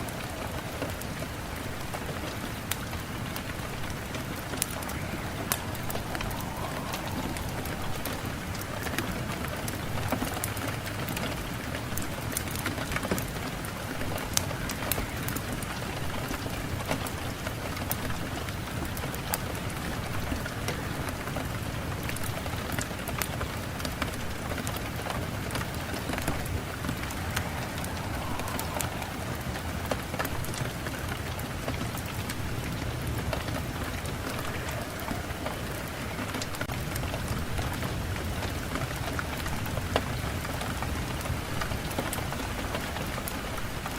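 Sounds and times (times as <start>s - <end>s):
raindrops ticking: 0.0s - 43.9s
steady rain hiss: 0.0s - 43.9s.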